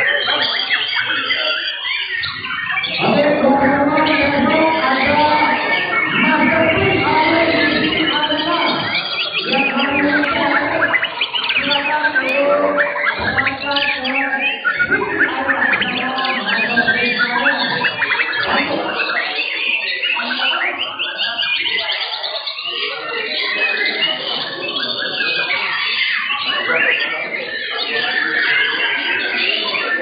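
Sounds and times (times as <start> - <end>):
birds singing trills and whistles: 0.0 - 30.0
murmur of voices: 0.0 - 30.0.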